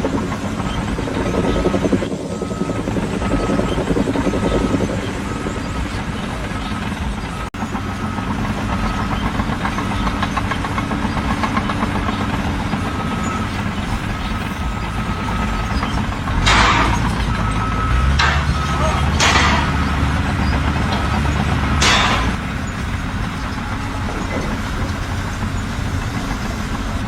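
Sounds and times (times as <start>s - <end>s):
heavy engine running: 0.0s - 27.0s.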